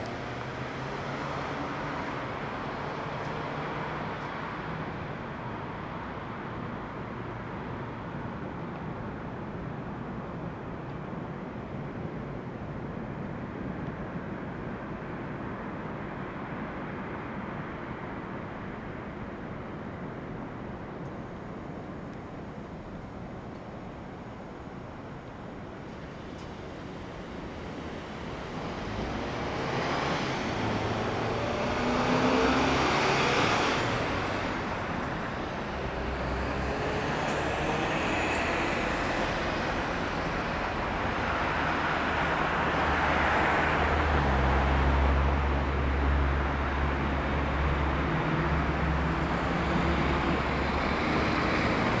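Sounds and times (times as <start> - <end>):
vehicles passing: 0.0 - 52.0.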